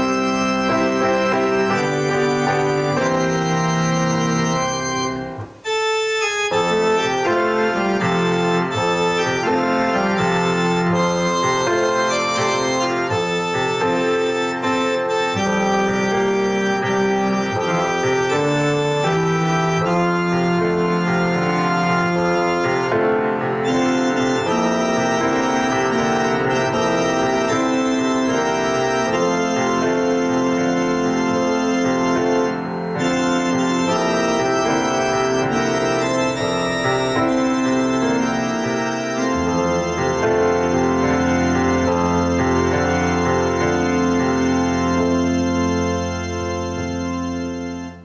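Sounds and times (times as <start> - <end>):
organ playing slow chords: 0.0 - 48.0.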